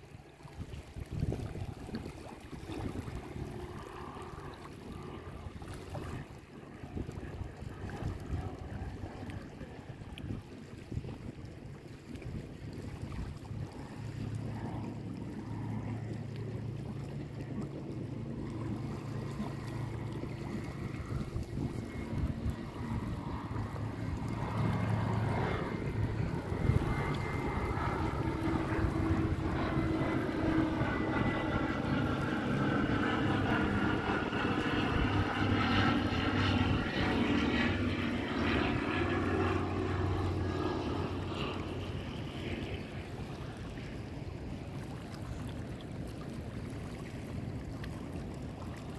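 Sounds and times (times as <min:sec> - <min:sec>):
propeller aircraft engine drone: 0:00.0 - 0:48.9.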